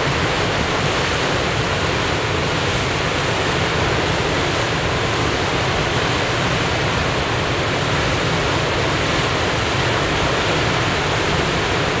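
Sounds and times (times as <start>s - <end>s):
rushing churning water: 0.0s - 12.0s.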